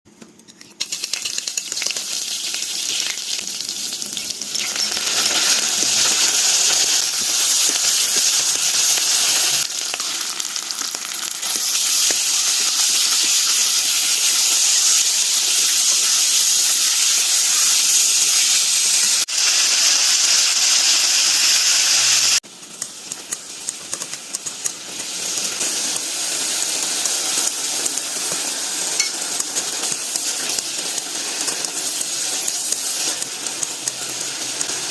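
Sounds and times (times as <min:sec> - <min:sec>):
meat sizzling in a hot pan: 0:00.8 - 0:34.9.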